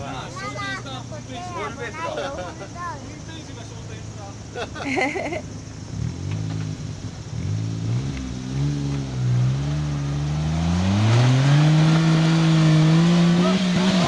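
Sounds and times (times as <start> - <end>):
engine labouring under load: 0.0 - 14.0.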